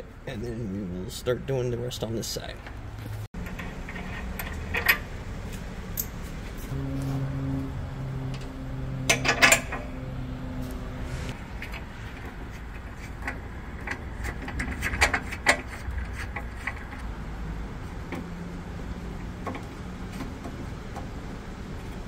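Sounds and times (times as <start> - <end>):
low steady hum: 3.3 - 22.0.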